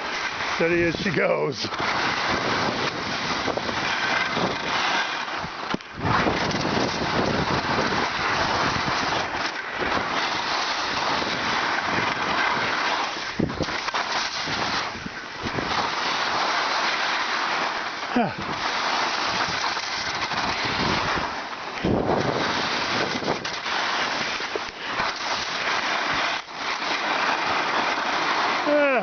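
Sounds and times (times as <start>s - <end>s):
wind buffeting microphone: 0.0s - 16.3s, 18.2s - 26.5s.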